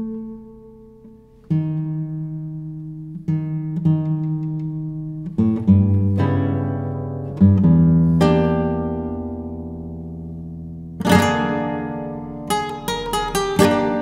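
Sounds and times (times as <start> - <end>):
classical guitar plucked notes: 0.0 - 14.0.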